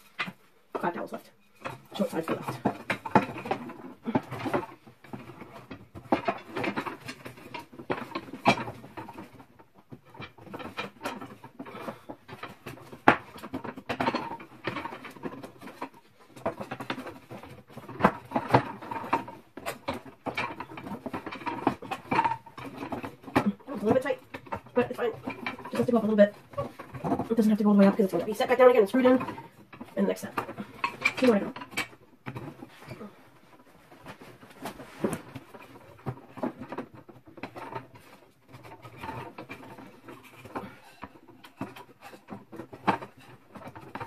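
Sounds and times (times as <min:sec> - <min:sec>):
wood rubbing and clacking on wood: 0:00.0 - 0:44.0.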